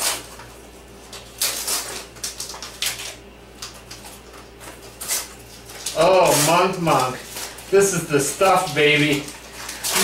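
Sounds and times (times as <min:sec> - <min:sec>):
package crinkling and scraping: 0:00.0 - 0:10.0.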